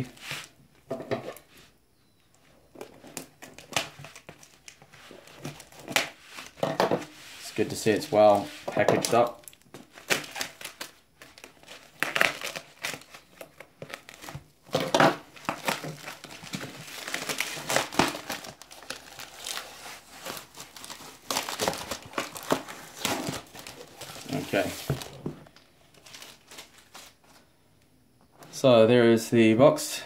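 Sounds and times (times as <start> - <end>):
foam wrap crinkling and rustling: 2.4 - 27.5.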